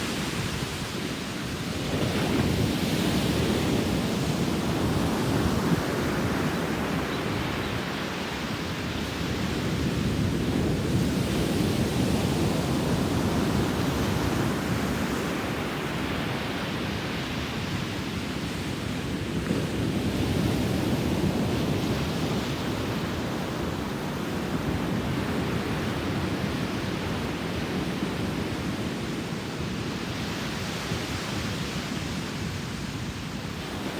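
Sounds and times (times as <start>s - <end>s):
ocean surf breaking on beach: 0.0s - 33.9s.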